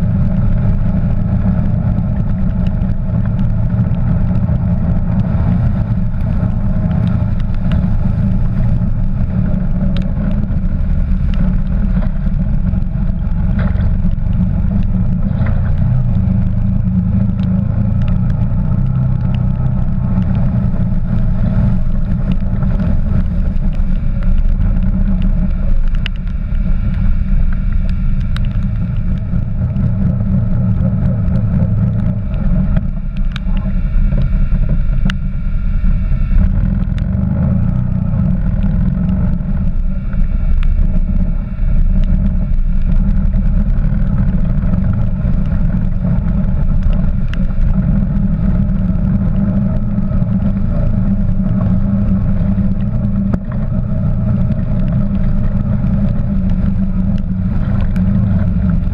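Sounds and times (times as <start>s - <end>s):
quad bike engine rumbling: 0.0s - 58.9s
sharp ticks: 0.1s - 58.9s.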